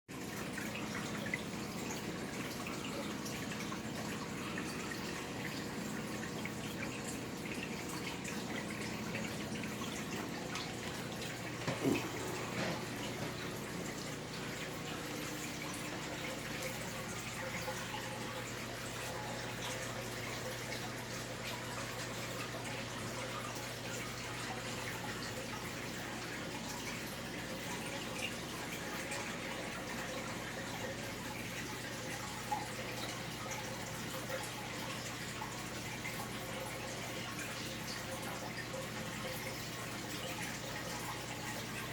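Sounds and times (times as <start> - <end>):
aquarium water trickling: 0.1 - 41.9.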